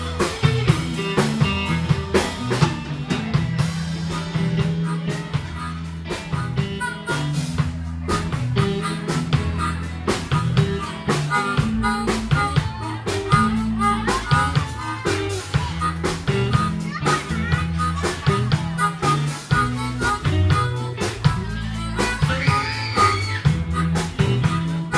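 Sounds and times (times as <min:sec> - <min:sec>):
drum kit beat: 0:00.0 - 0:24.9
electric guitars: 0:00.0 - 0:24.9
harmonica wailing: 0:00.0 - 0:24.9.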